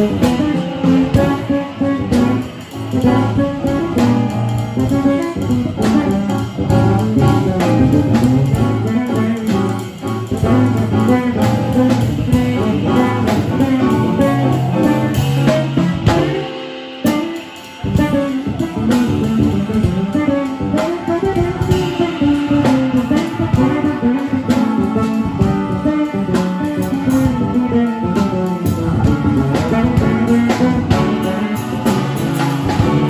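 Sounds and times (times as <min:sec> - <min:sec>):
jazz-blues band playing: 0:00.0 - 0:33.0.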